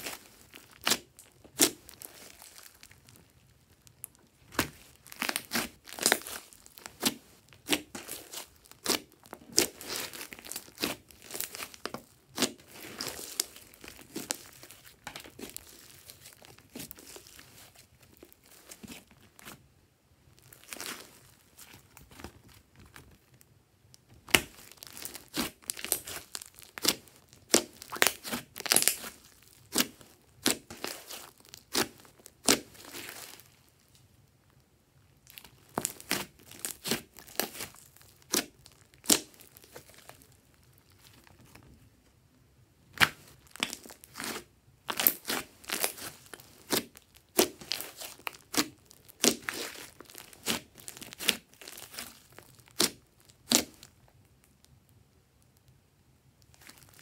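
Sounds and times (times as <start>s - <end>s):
slime popping and crackling: 0.0s - 19.5s, 24.2s - 33.6s, 35.2s - 41.0s, 42.9s - 54.0s.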